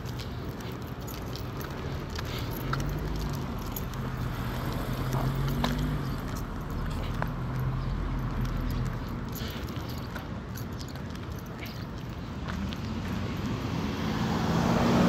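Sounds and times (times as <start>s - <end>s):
body rattles and clicks: 0.0s - 13.6s
bus drivetrain drone: 0.0s - 15.0s.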